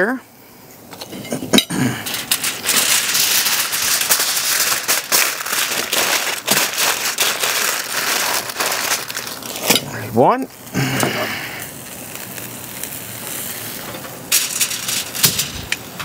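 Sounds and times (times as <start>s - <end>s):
aluminum foil crinkling: 1.1s - 10.0s, 10.6s - 16.0s.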